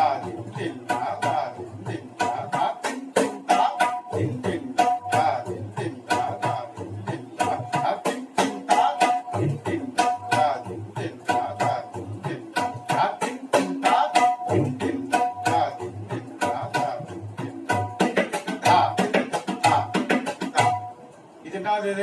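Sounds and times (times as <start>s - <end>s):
tabla playing fast strokes: 0.0s - 21.0s.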